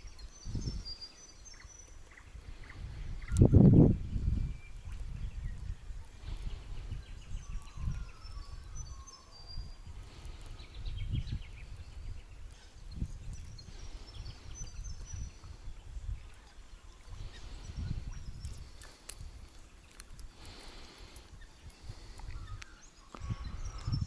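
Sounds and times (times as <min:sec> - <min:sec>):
birds calling and trilling: 0:00.0 - 0:24.0
wind rumble on microphone: 0:00.0 - 0:24.0.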